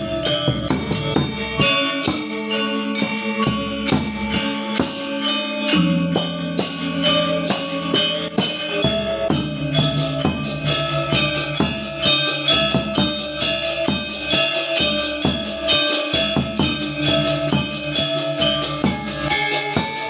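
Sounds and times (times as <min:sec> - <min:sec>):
gamelan gong ensemble playing: 0:00.0 - 0:20.0.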